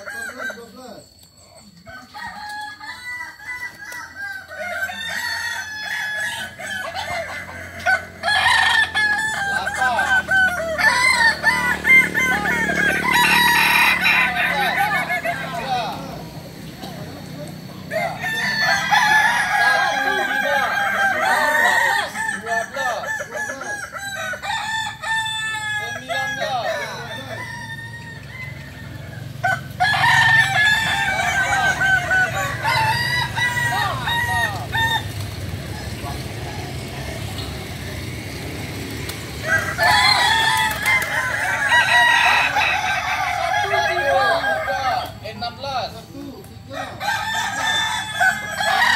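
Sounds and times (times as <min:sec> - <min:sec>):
roosters crowing: 0:00.0 - 0:48.9.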